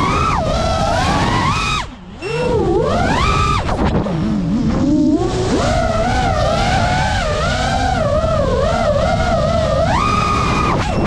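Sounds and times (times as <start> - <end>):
drone motors whining: 0.0 - 11.0
wind and prop wash rush: 0.0 - 11.0.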